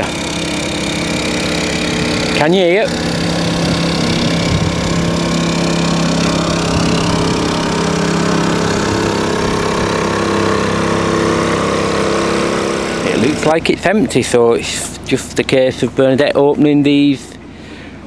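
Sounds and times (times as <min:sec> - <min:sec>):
portable generator droning: 0:00.0 - 0:18.0.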